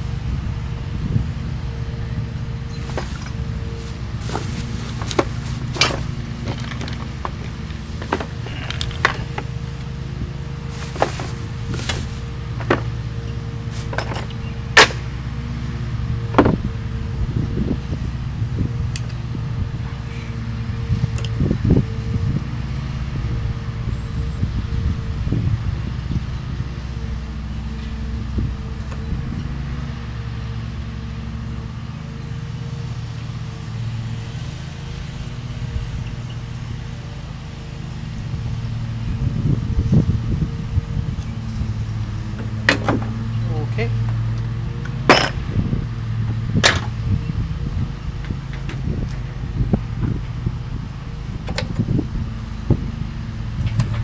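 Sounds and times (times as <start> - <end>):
lawnmower engine running: 0.0 - 54.0
low motor hum: 0.0 - 54.0.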